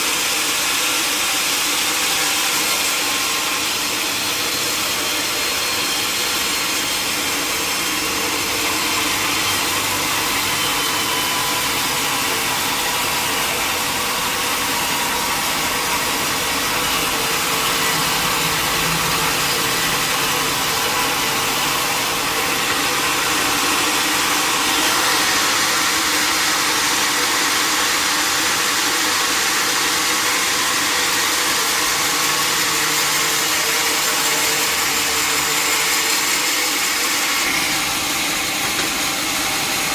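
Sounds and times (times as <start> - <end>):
saw whirring: 0.0 - 39.9.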